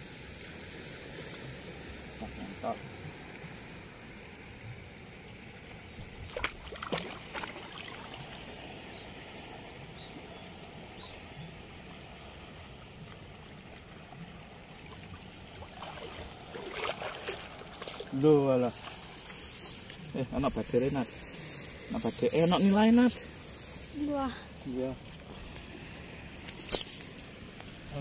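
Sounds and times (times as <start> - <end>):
river water running: 0.0 - 28.0.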